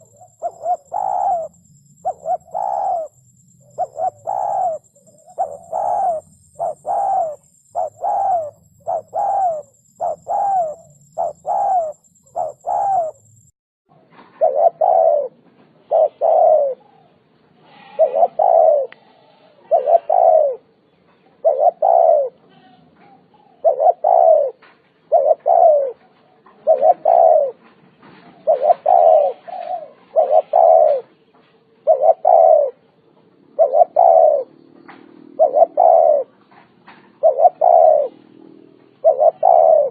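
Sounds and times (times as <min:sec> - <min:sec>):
dove cooing: 0:00.0 - 0:13.5, 0:14.3 - 0:31.2, 0:31.8 - 0:39.9.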